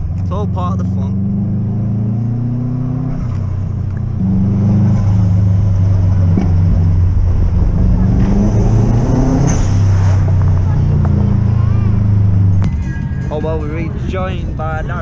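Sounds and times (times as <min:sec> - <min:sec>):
car engine accelerating: 0:00.0 - 0:12.7.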